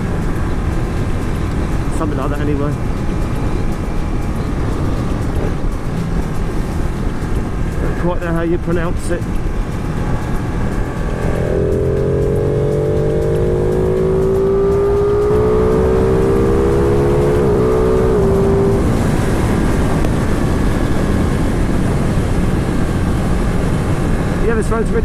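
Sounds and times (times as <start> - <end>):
motorcycle engine accelerating: 0.0 - 25.0
wind noise on microphone: 0.0 - 25.0.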